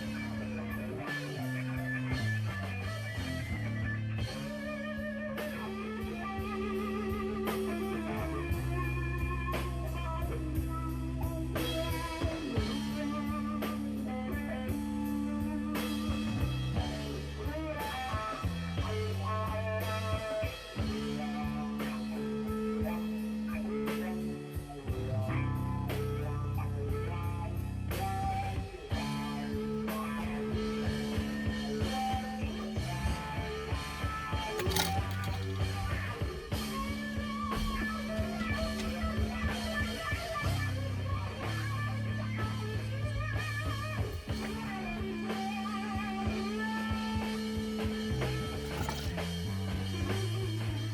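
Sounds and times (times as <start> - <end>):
blues-rock music with drums: 0.0 - 50.9.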